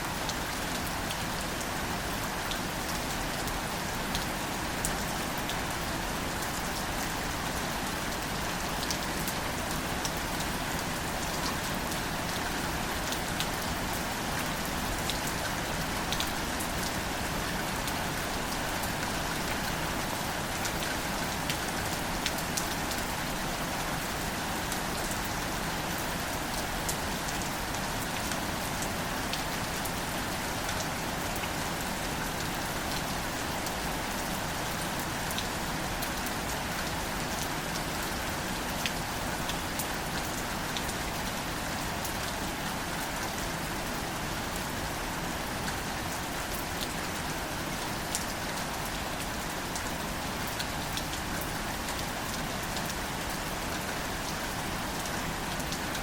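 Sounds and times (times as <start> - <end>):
gentle rain on foliage: 0.0 - 56.0.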